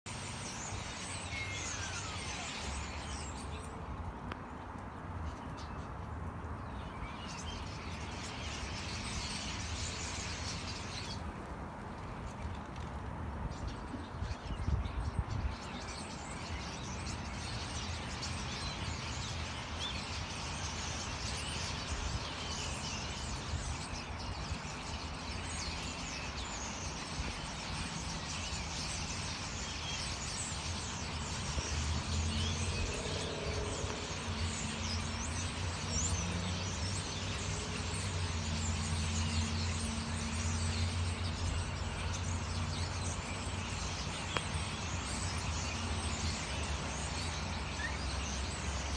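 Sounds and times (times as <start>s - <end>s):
small birds chirping: 0.1s - 48.9s.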